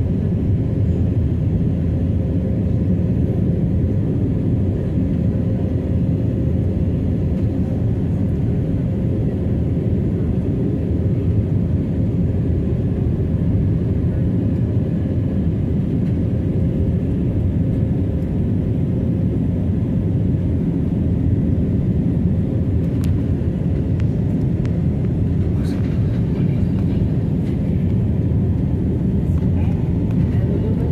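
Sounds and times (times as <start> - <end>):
airliner engine low rumble: 0.0 - 30.9.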